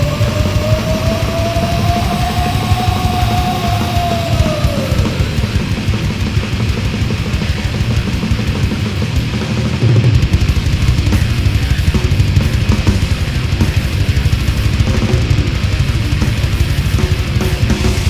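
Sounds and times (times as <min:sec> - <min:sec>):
fast drumming: 0:00.0 - 0:18.0
thrash metal music: 0:00.0 - 0:18.0.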